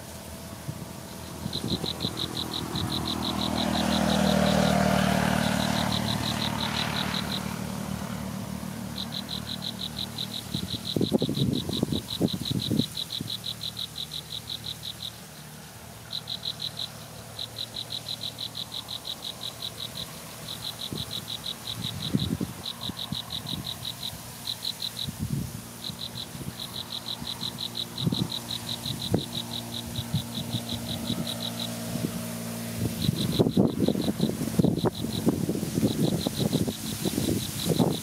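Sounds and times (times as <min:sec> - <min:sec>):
animal pulsed trill call: 0:01.1 - 0:25.2, 0:25.8 - 0:38.0.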